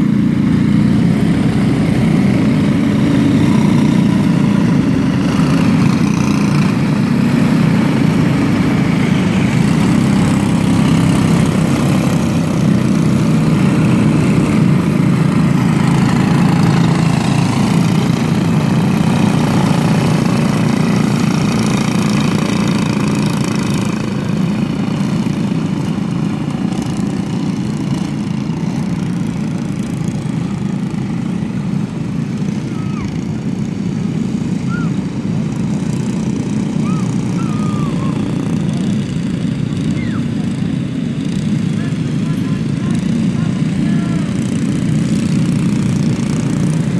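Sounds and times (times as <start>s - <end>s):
kart engines droning: 0.0s - 46.9s.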